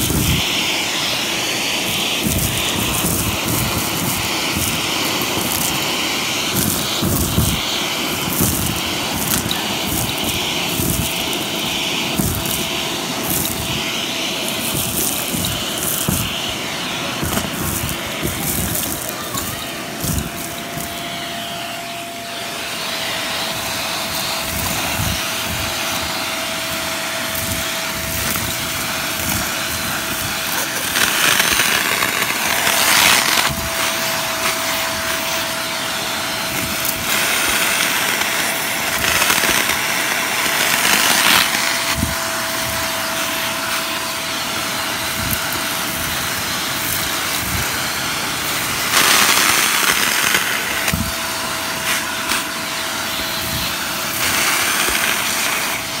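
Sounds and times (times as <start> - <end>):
debris rattling up vacuum hose: 0.0 - 56.0
vacuum cleaner whining: 0.0 - 56.0.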